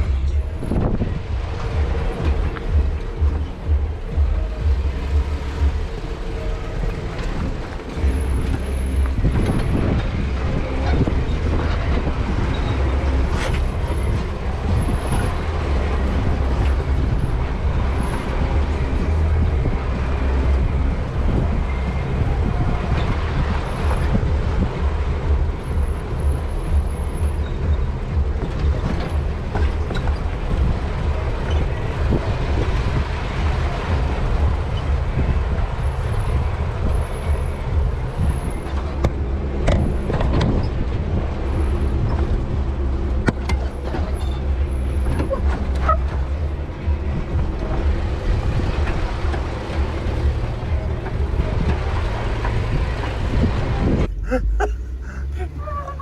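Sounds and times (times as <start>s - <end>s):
off-road vehicle rumble: 0.0s - 56.0s.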